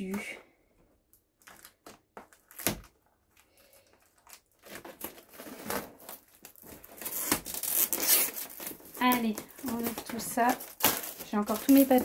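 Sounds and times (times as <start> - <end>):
shrink-wrap crinkling and tearing: 1.1 - 12.0.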